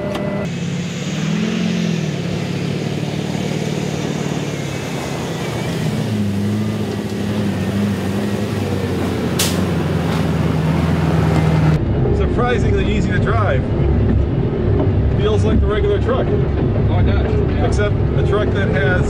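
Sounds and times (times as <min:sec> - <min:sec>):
diesel truck engine accelerating: 0:00.0 - 0:19.0.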